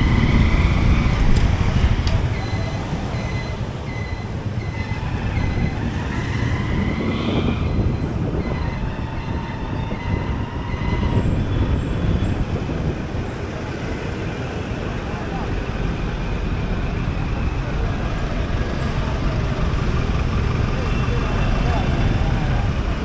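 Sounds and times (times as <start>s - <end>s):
motorcycle engine rumble: 0.0s - 23.0s
road and wind noise: 0.0s - 23.0s.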